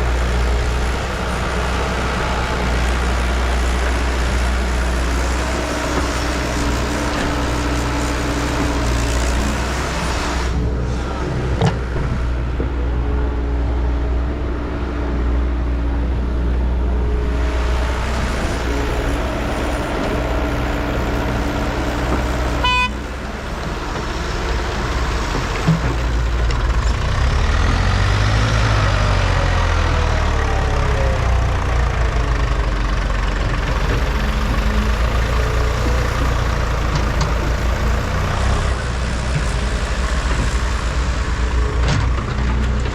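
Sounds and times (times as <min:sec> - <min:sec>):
heavy vehicle engine running: 0:00.0 - 0:42.9.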